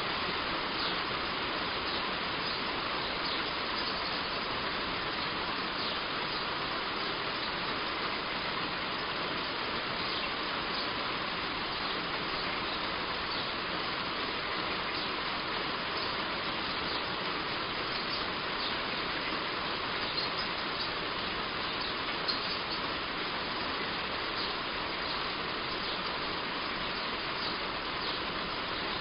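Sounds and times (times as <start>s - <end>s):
heavy rain on a roof: 0.0s - 29.0s.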